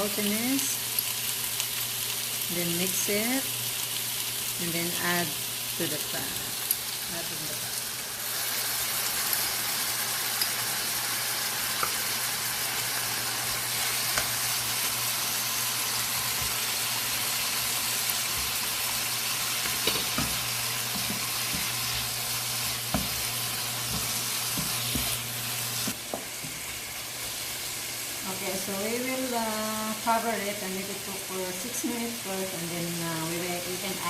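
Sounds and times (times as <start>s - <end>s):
chicken sizzling in a pan: 0.0s - 34.0s.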